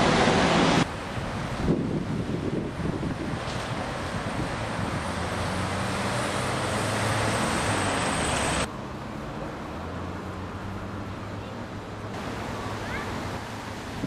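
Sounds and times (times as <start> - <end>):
vehicle engine and tyre noise: 0.0 - 14.0.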